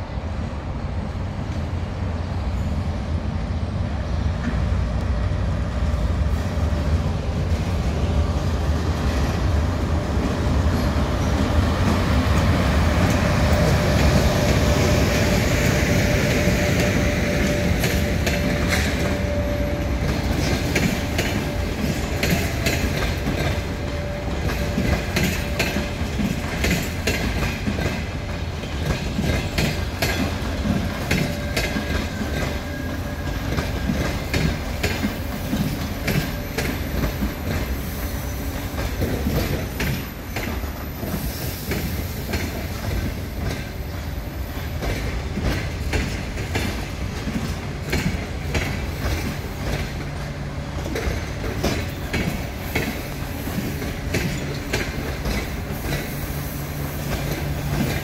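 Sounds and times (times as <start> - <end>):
train wheels rumbling on rail: 0.0 - 58.0
wheels clicking over rail joints: 10.2 - 37.8, 38.6 - 58.0.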